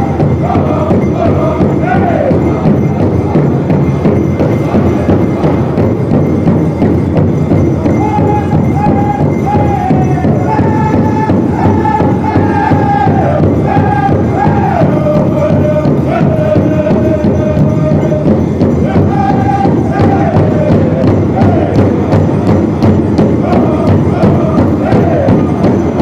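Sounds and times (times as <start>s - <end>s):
chorus singing high vocables: 0.0s - 3.8s, 7.8s - 26.0s
big drum beating: 0.0s - 26.0s.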